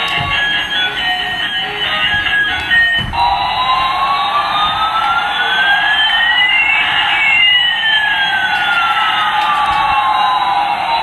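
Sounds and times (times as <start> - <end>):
toy siren-like electronic tones: 0.1 - 11.0.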